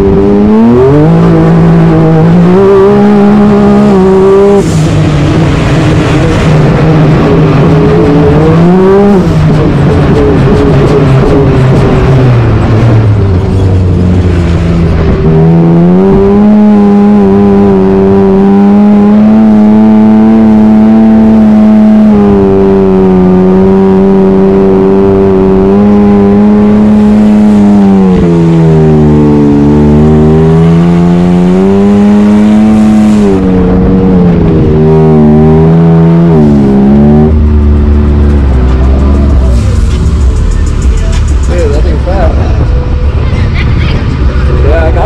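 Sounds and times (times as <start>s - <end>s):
engine running under load: 0.0s - 45.0s.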